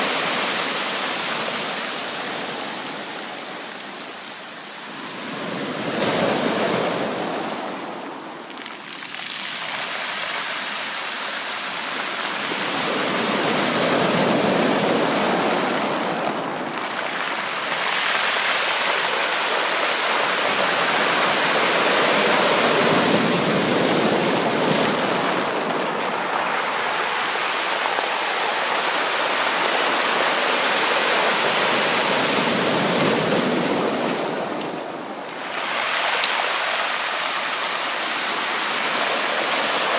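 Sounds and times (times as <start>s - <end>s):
sea waves washing on beach: 0.0s - 39.9s.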